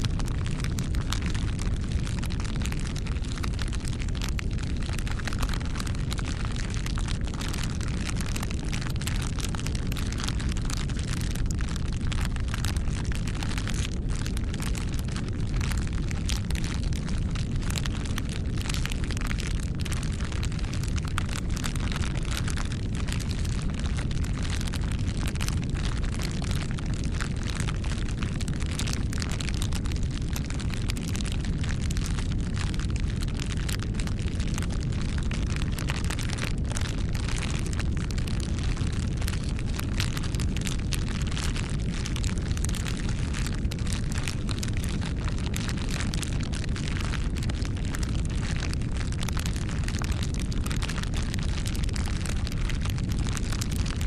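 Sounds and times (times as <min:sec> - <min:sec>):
campfire rumbling: 0:00.0 - 0:54.0
wood crackling and popping: 0:00.0 - 0:54.0.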